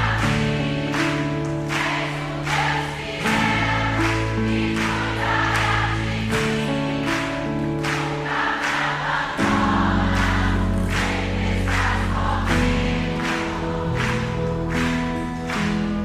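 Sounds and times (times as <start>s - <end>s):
choir singing: 0.0s - 14.6s.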